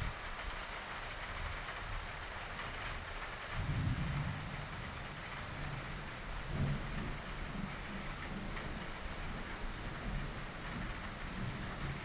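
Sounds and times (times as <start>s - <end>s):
steady rain falling: 0.0s - 12.0s
low thunder rumbles: 1.4s - 12.0s.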